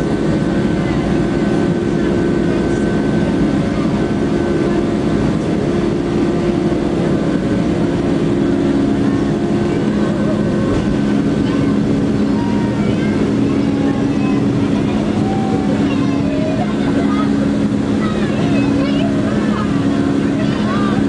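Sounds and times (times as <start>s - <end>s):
faint high engine whine: 0.0s - 21.0s
jet engines rumbling in cabin: 0.0s - 21.0s.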